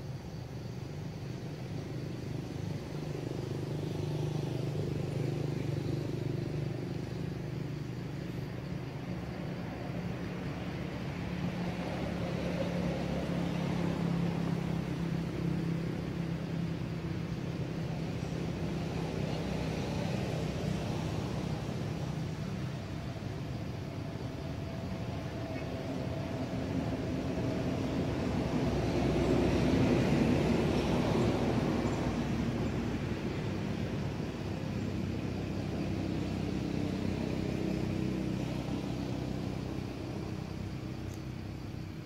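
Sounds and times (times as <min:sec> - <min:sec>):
traffic engine rumble: 0:00.0 - 0:42.0.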